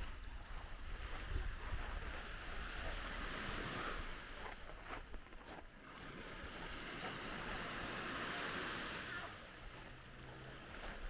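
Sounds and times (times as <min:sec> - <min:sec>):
sea waves washing onto beach: 0:00.0 - 0:11.0.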